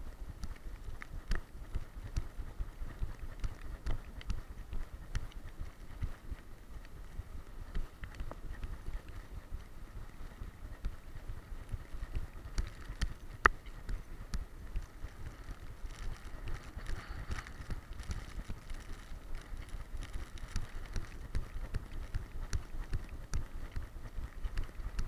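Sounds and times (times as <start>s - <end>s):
rhythmic low thuds of running dog: 0.0s - 25.0s.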